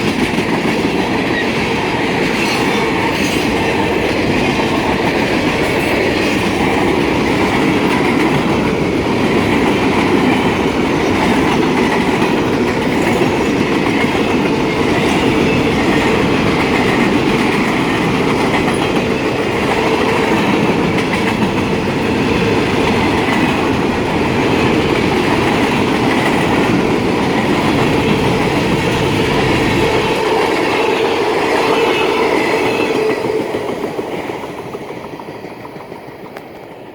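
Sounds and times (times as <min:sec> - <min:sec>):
freight train cars rolling: 0:00.0 - 0:36.9.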